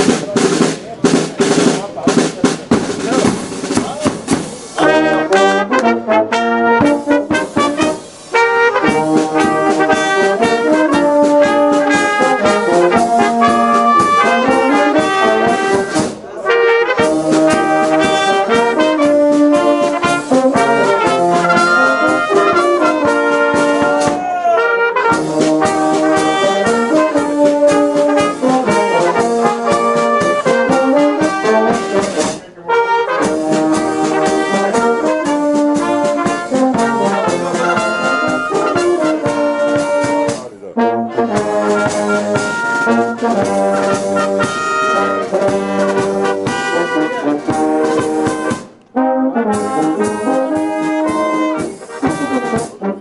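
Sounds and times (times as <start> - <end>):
brass band playing a march: 0.0 - 53.0
cymbals: 0.0 - 53.0.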